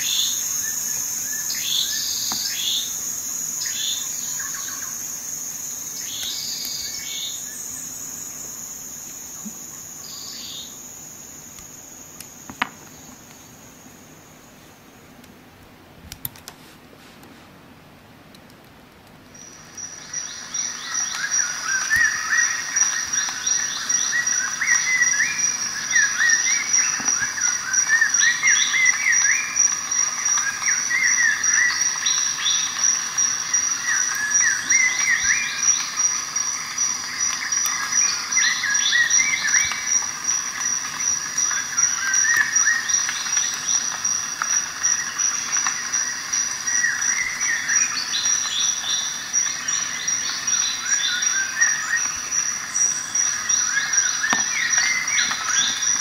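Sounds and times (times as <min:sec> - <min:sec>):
birds chirping: 0:00.0 - 0:13.7, 0:19.4 - 0:56.0
high-pitched insect trill: 0:00.0 - 0:14.9, 0:19.4 - 0:56.0.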